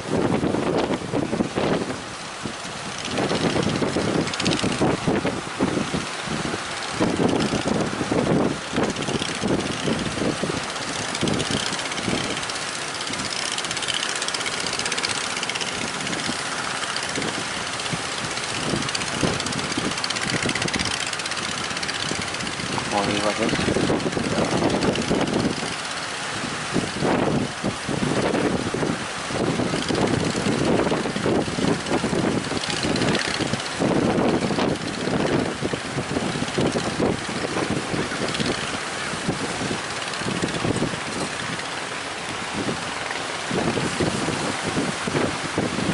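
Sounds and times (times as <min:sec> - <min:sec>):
outboard engine running: 0:00.0 - 0:45.9
rushing wind: 0:00.0 - 0:45.9
water rushing: 0:00.0 - 0:45.9.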